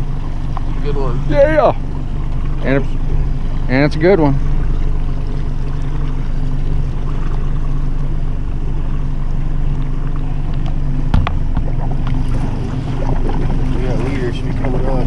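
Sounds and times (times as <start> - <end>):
outboard motor humming: 0.0 - 15.0
water noise: 0.0 - 15.0
wind: 0.0 - 15.0.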